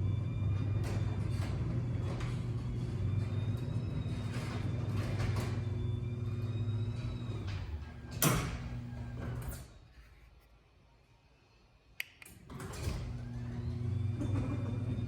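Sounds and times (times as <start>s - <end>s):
garage door opener humming: 0.0s - 9.7s, 12.3s - 15.0s.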